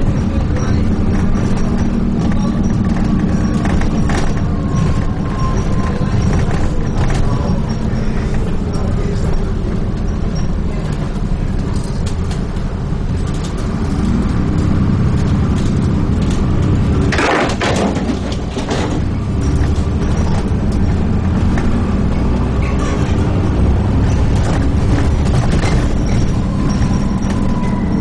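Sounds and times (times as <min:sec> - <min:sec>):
bus diesel engine running: 0:00.0 - 0:28.0
rattles and clicks: 0:00.0 - 0:28.0.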